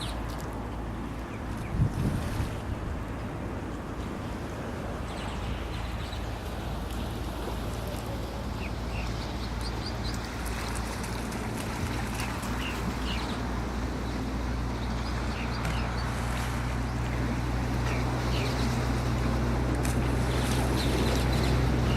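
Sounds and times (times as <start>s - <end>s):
shore noise: 0.0s - 21.9s.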